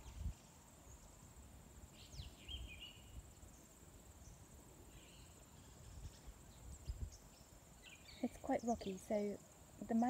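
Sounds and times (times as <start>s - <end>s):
bird chirp: 1.9s - 10.0s.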